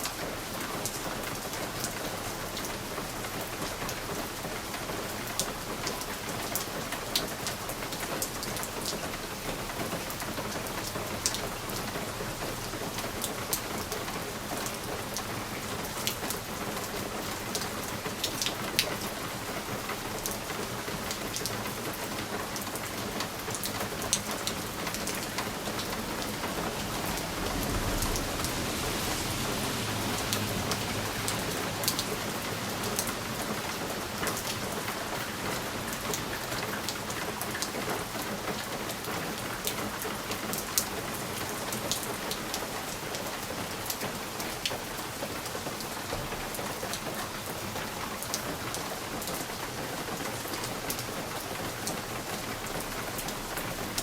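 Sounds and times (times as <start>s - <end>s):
rain against a window: 0.0s - 54.0s.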